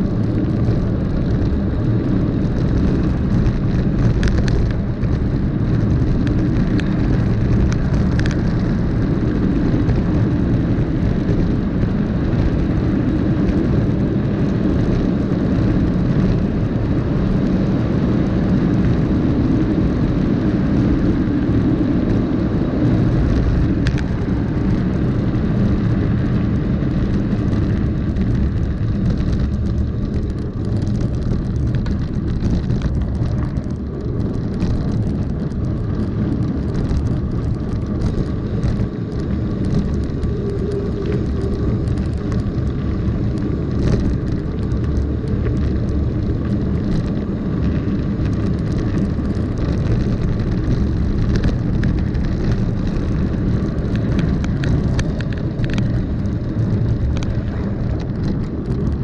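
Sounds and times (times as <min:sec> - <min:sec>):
bike rattles and clicks: 0:00.0 - 0:59.0
bike tyres rumbling on gravel: 0:00.0 - 0:59.0
wind on microphone: 0:00.0 - 0:59.0.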